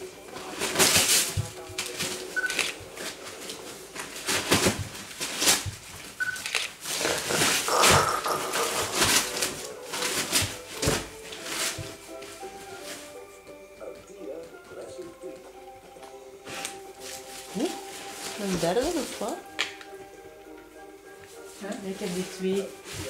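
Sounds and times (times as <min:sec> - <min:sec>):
newspaper and blankets rustling: 0:00.0 - 0:23.0.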